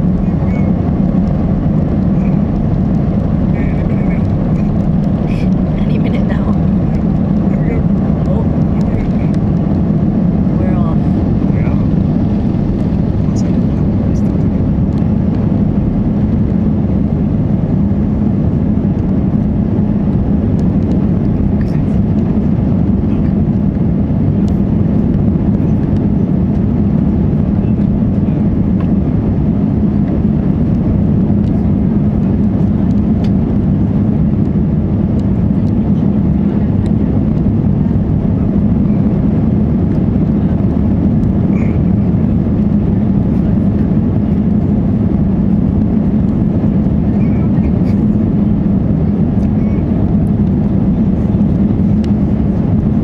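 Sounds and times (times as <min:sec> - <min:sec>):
vehicle running noise: 0:00.0 - 0:53.0.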